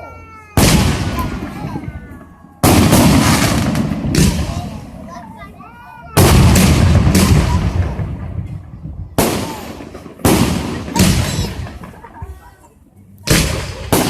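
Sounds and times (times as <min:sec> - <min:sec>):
fireworks bangs: 0:00.6 - 0:05.5, 0:06.1 - 0:12.3, 0:13.2 - 0:14.0.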